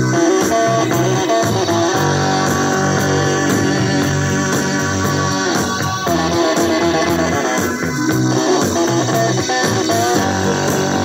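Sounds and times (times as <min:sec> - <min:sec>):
guitar music through speakers: 0:00.0 - 0:11.0.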